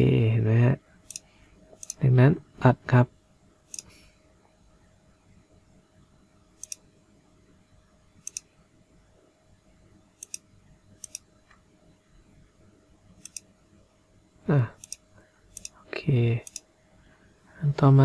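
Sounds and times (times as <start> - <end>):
faint room hum: 0.0 - 18.0.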